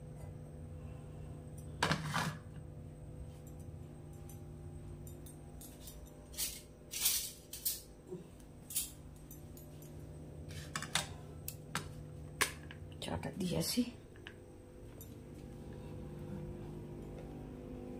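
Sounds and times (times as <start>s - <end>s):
faint hum: 0.0s - 17.9s.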